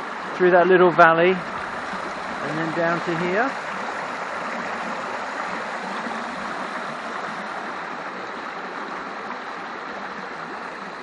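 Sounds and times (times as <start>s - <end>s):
small stream flowing: 0.0s - 11.0s.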